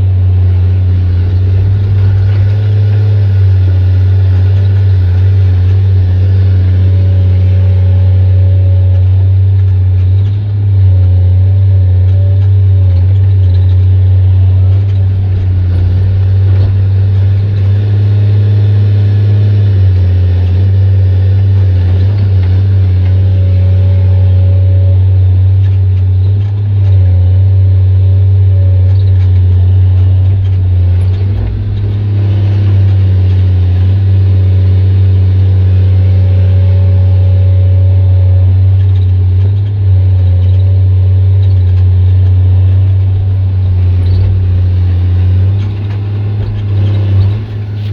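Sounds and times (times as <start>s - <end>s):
excavator diesel engine droning: 0.0s - 47.9s.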